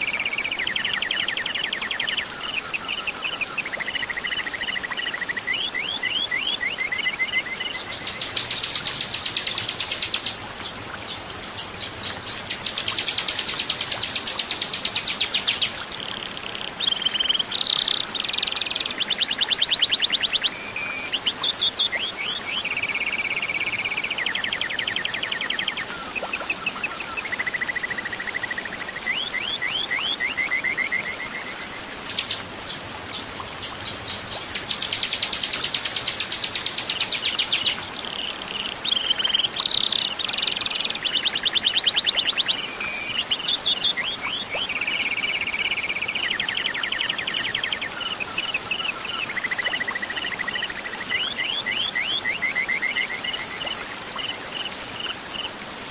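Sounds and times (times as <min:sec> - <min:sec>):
songbird singing trills: 0:00.0 - 0:55.1
background hiss: 0:00.0 - 0:55.9.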